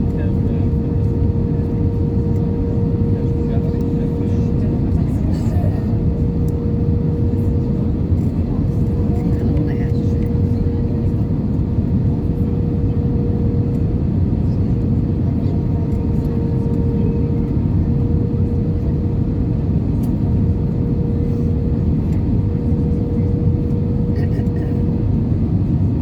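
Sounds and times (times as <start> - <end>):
airliner cabin engine noise: 0.0 - 26.0.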